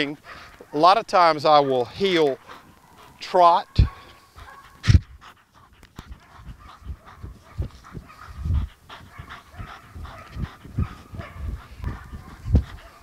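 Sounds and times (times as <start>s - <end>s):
dog breathing hard: 0.0s - 0.7s, 1.7s - 13.0s
footsteps trotting on grass: 1.8s - 13.0s.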